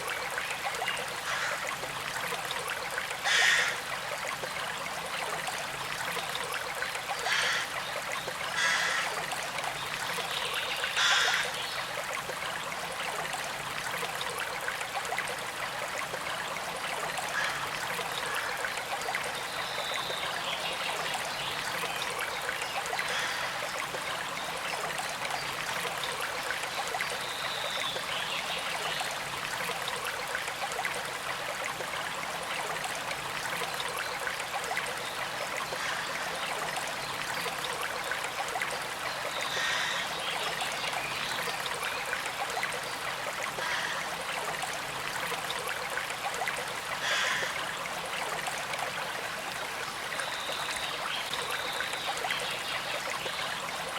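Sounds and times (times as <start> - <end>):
stream flowing over stones: 0.0 - 53.9.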